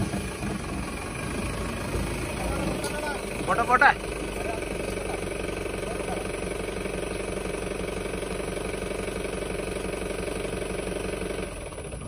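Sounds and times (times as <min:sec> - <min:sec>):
pickup engine running at low revs: 0:00.0 - 0:12.0.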